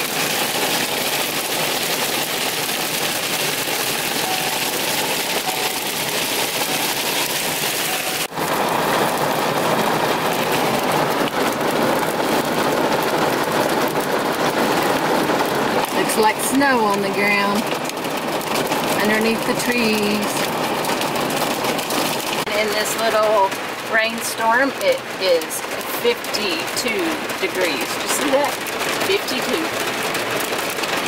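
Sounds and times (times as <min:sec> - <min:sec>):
hail and rain pelting: 0:00.0 - 0:31.0.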